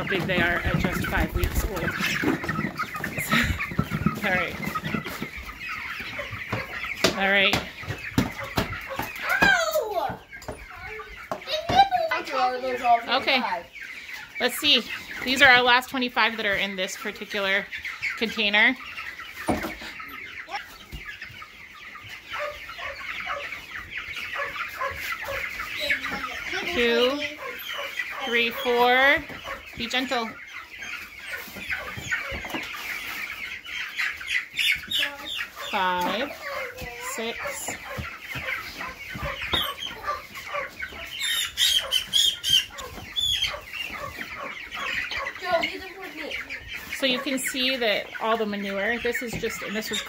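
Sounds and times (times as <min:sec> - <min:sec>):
chickens peeping and chirping: 0:00.0 - 0:50.0.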